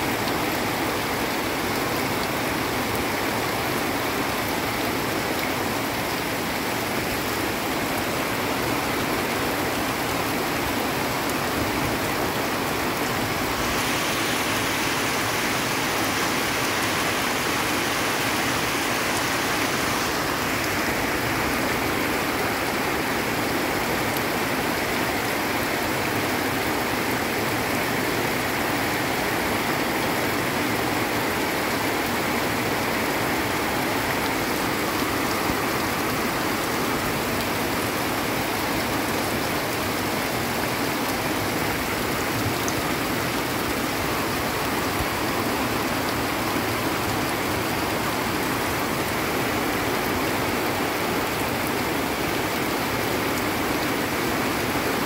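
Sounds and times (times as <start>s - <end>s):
heavy rain on leaves: 0.0s - 55.0s
runoff water rushing: 0.0s - 55.0s.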